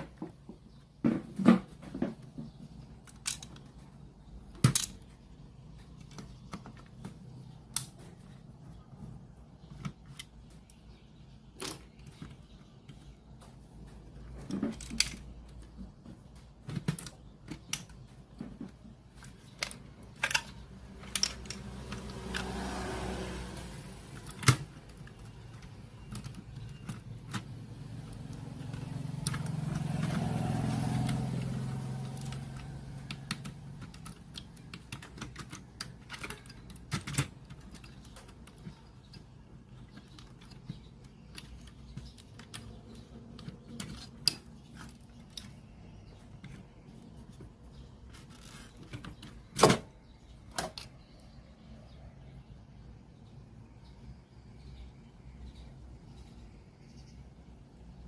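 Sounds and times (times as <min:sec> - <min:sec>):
small clicks and rattles: 0:00.0 - 0:51.3.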